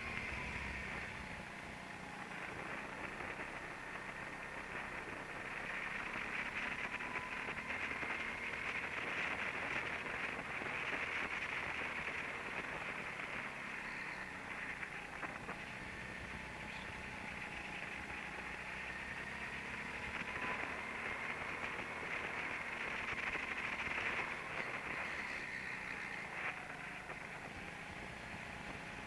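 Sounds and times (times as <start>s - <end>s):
faint whine: 0.0s - 29.0s
go-kart motor and tyres hum: 0.0s - 29.0s.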